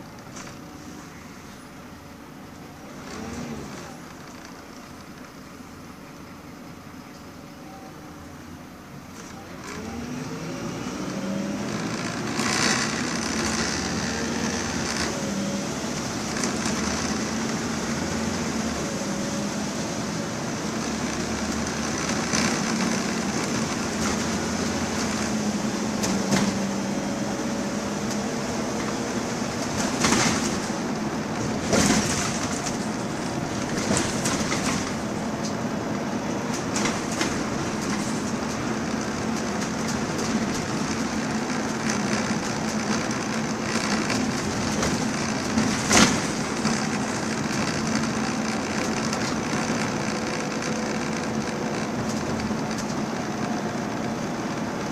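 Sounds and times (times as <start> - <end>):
bus body knocking and rattling: 0.0 - 7.4, 11.6 - 54.9
diesel bus engine running: 0.0 - 54.9.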